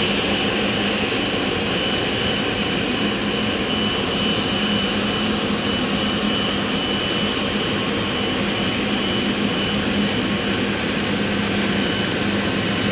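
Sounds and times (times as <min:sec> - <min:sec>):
jet engines running: 0:00.0 - 0:12.9.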